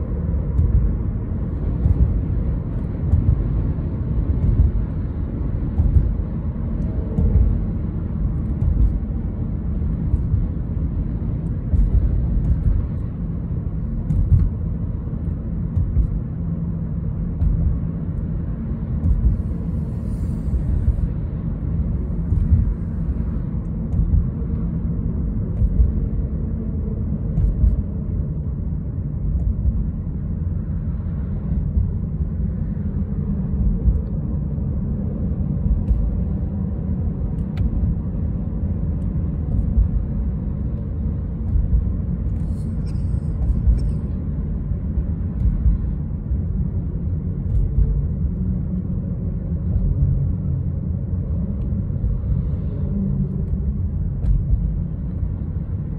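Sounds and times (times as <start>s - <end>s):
car cabin road noise: 0.0s - 55.9s.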